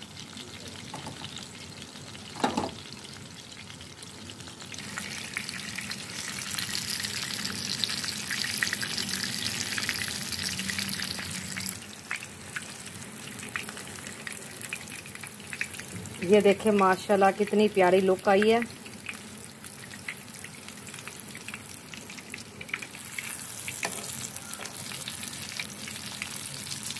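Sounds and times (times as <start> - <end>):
patties sizzling in oil: 0.0 - 26.9.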